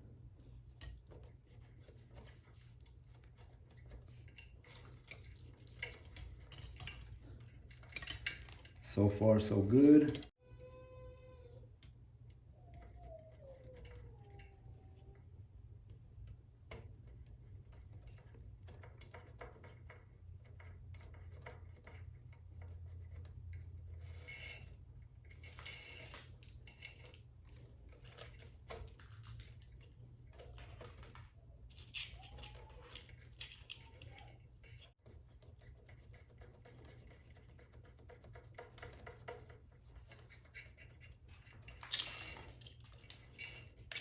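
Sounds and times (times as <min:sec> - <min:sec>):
clicks and rustles of wires: 0:00.0 - 0:10.4, 0:11.5 - 0:44.0.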